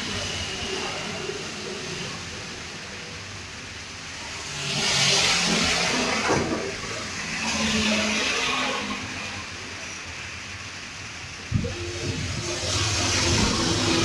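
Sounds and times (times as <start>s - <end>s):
heavy rain in strong wind: 0.0s - 14.0s.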